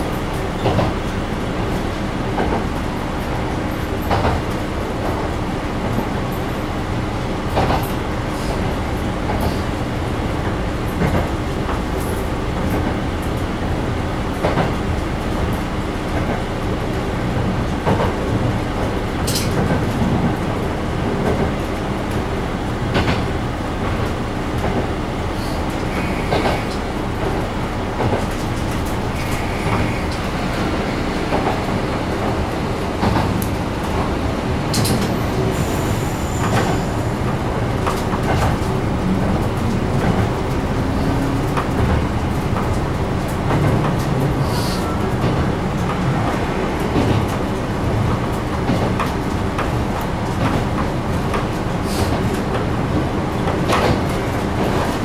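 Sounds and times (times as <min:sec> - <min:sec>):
railcar engine drone: 0:00.0 - 0:55.0.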